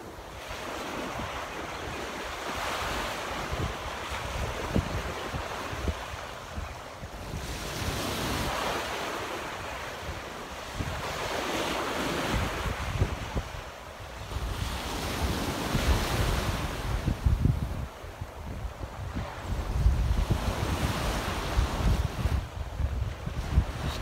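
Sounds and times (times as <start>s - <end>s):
waves breaking on sandy shore: 0.0s - 24.0s
wind buffeting microphone: 0.4s - 24.0s.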